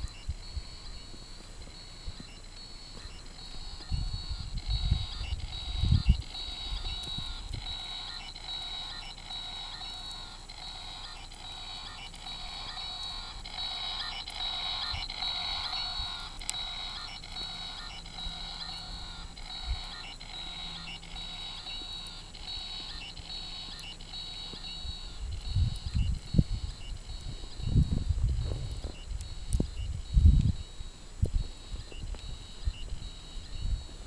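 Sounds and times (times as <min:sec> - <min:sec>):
toy beeping tune: 0:00.0 - 0:34.0.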